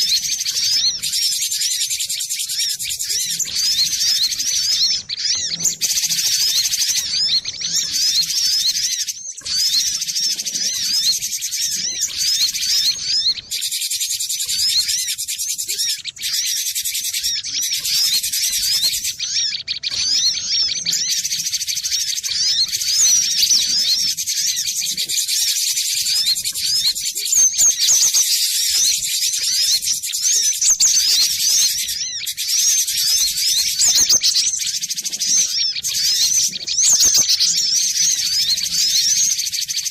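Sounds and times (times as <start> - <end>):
bird quick high chirps: 0.0 - 39.9.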